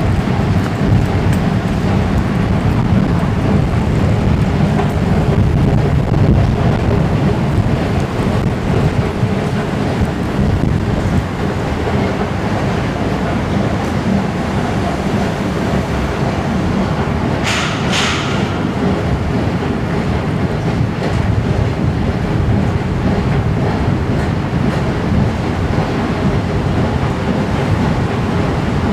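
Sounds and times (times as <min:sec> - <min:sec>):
escalator machinery: 0:00.0 - 0:28.9
road traffic rumble: 0:00.0 - 0:28.9.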